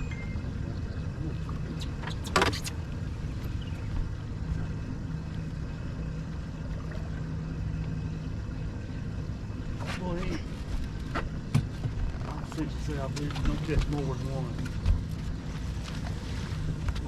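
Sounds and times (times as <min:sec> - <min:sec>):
boat motor rumbling: 0:00.0 - 0:17.0.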